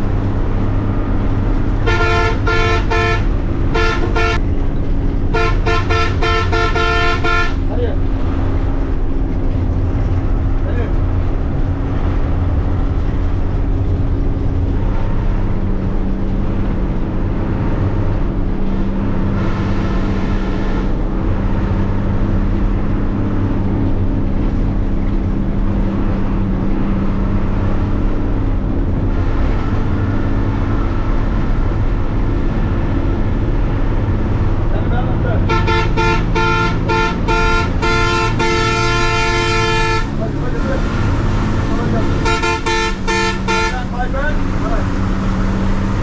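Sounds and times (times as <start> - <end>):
bus engine drone: 0.0 - 46.0
road and wind noise: 0.0 - 46.0.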